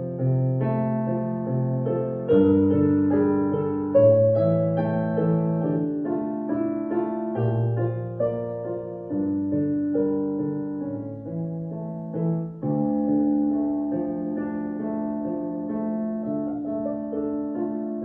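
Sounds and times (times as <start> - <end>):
slow gentle piano piece: 0.0 - 18.0.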